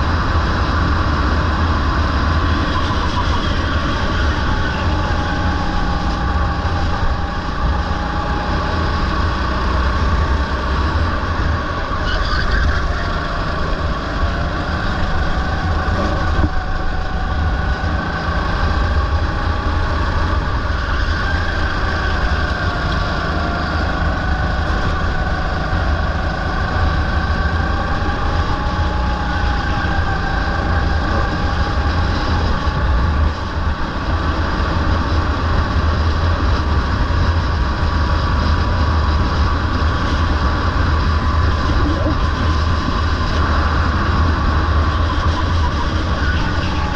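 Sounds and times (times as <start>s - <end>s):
go-kart engine racing: 0.0s - 46.9s
wind rumble on microphone: 0.0s - 46.9s.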